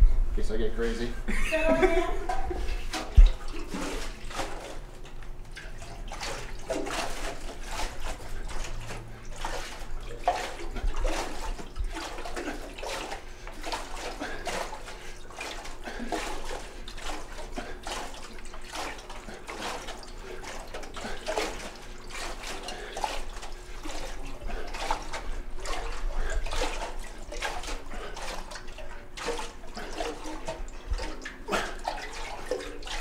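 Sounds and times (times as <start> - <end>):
liquid sloshing inside keg: 0.4 - 33.0.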